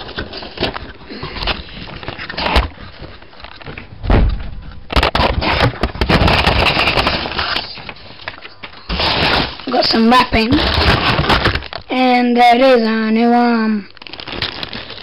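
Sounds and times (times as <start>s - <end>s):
cardboard and paper rustling: 0.0s - 12.8s, 14.0s - 15.0s.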